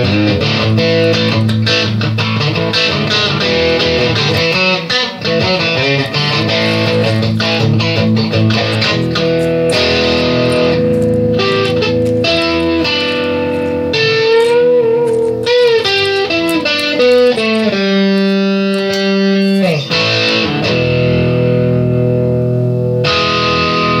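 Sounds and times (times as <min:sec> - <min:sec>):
electric guitar with effects: 0:00.0 - 0:24.0.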